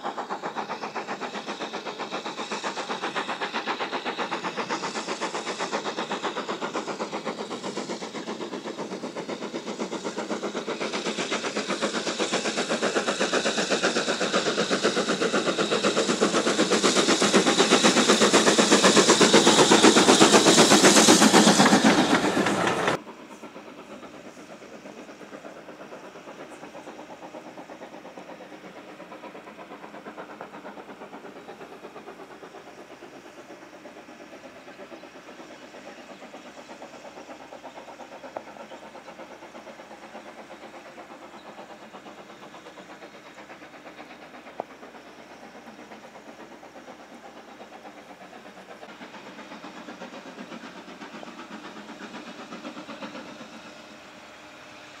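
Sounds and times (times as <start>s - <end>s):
rumble of train coaches: 0.0s - 55.0s
steam locomotive exhaust beats: 0.0s - 55.0s.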